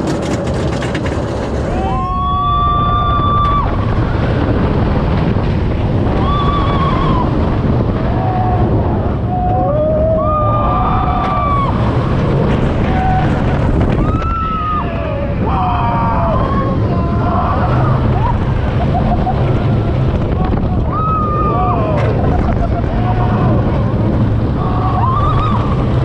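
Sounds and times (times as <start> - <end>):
wind on microphone: 0.0 - 26.0
riders screaming: 1.7 - 4.4, 6.0 - 26.0.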